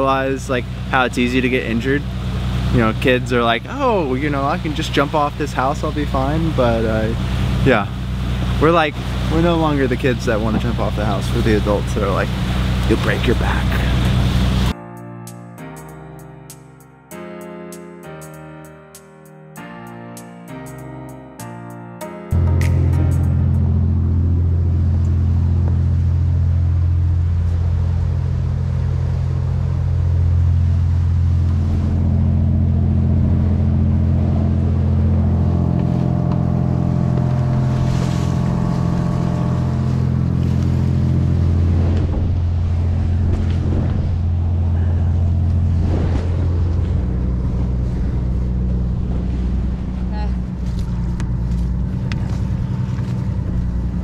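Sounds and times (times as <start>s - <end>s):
boat engine running: 0.0s - 54.0s
water along hull: 0.0s - 54.0s.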